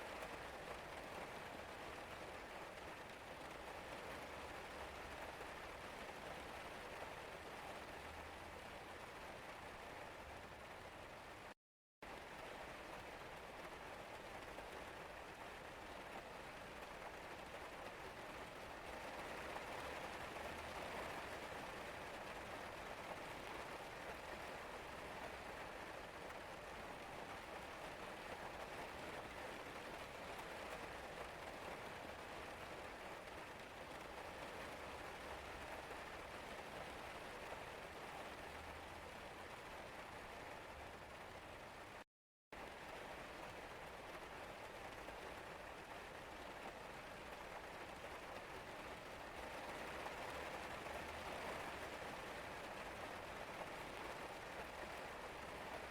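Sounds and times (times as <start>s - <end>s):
rain pattering: 0.0s - 42.0s, 42.6s - 55.9s.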